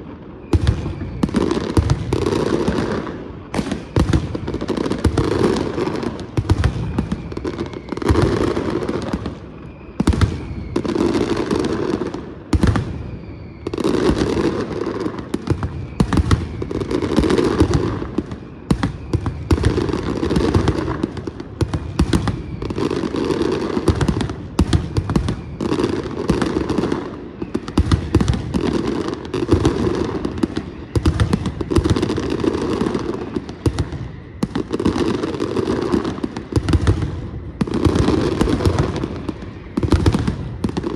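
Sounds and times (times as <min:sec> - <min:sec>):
faint firework whistles: 0:00.0 - 0:40.9
fireworks crackling and hissing: 0:00.0 - 0:40.9.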